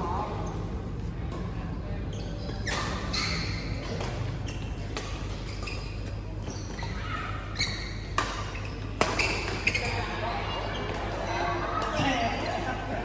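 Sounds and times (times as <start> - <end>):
shoes squeaking on court: 2.0 - 12.6.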